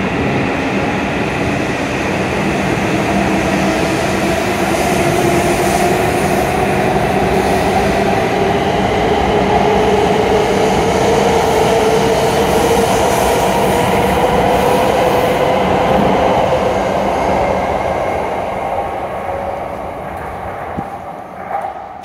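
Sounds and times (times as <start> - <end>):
train rumbling with rising whine: 0.0 - 22.0.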